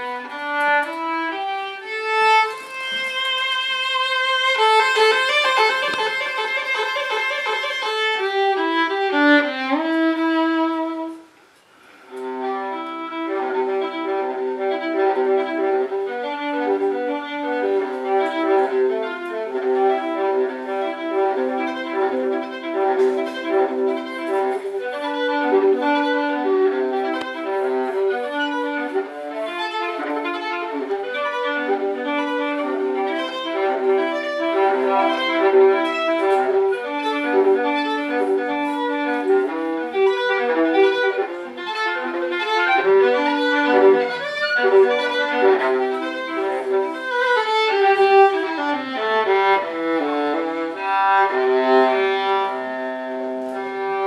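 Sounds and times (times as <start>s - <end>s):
solo violin: 0.0s - 54.0s.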